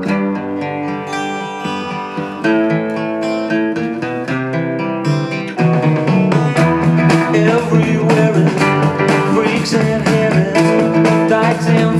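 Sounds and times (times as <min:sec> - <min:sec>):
acoustic guitar music through speakers: 0:00.0 - 0:11.9.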